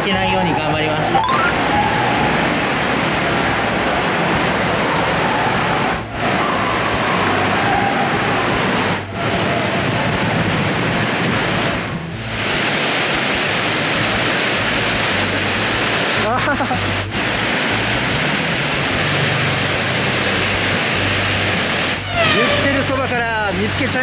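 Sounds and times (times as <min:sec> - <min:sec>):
waterfall roar: 0:00.0 - 0:24.0.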